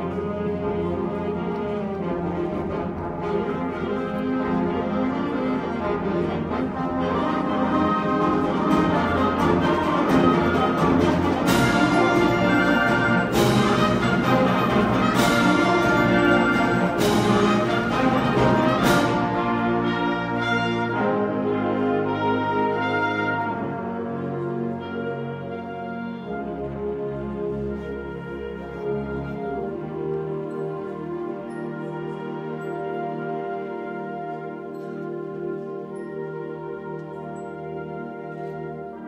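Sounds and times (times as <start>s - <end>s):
concert band playing: 0.0s - 38.6s.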